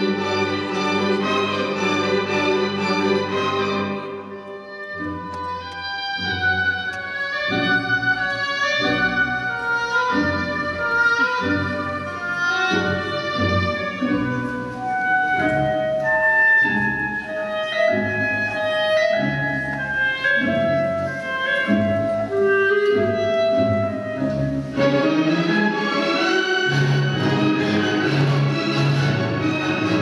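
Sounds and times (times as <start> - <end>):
orchestral ballet music: 0.0 - 30.0.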